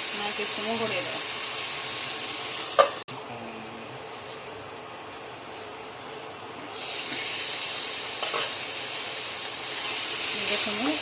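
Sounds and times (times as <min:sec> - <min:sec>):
spices sizzling in a pan: 0:00.0 - 0:03.0, 0:04.0 - 0:11.0.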